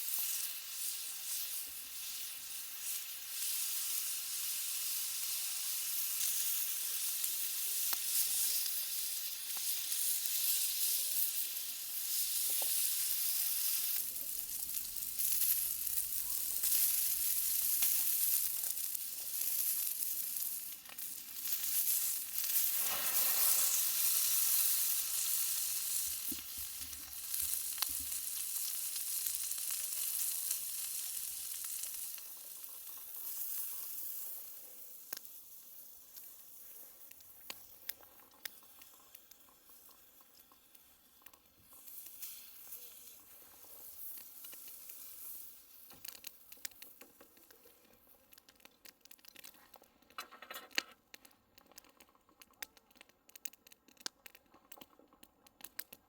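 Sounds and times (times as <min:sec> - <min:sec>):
steak sizzling on a grill: 0:00.0 - 0:49.6.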